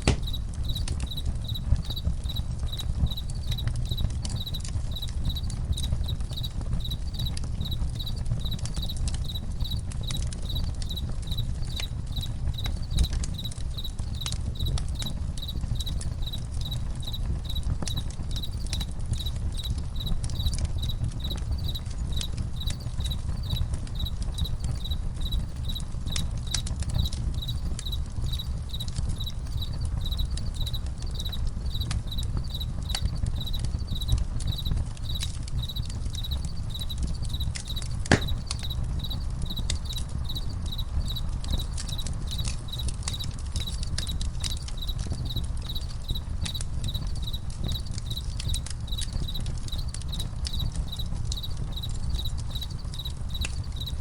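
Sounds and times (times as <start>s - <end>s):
campfire crackling and popping: 0.0s - 54.0s
crickets chirping: 0.0s - 54.0s.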